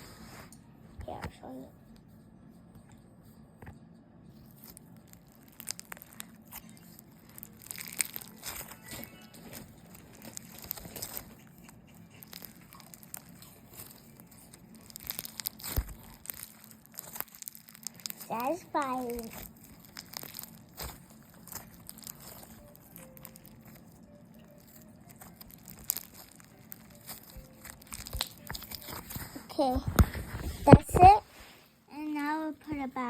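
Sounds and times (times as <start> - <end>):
crunchy slime crackling: 4.4 - 31.2.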